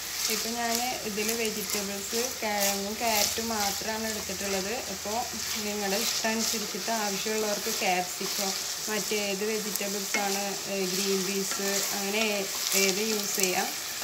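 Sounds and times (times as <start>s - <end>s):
onions sizzling in hot oil: 0.0s - 14.0s
wooden spatula scraping: 0.0s - 14.0s.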